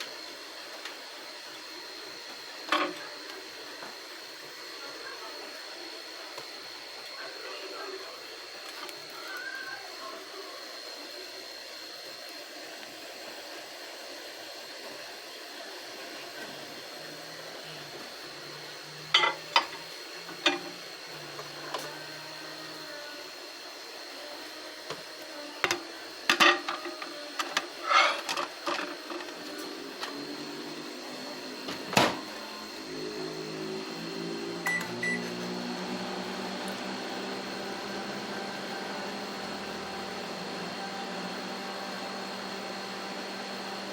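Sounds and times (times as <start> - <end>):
microwave oven humming and whining: 0.0 - 43.9.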